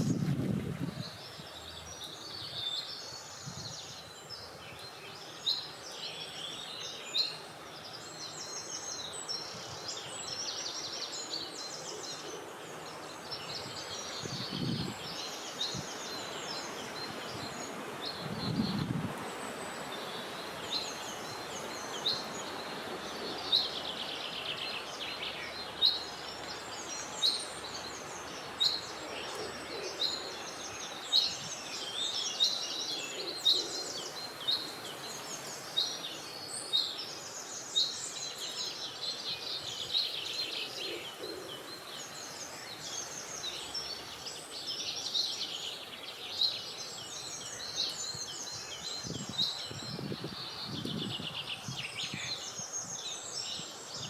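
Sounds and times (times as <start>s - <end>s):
outdoor ambience hiss: 0.0s - 54.0s.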